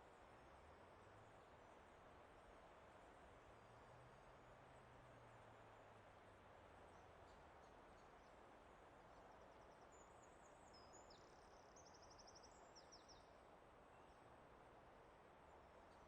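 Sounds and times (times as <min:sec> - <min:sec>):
soft steady hiss: 0:00.0 - 0:16.0.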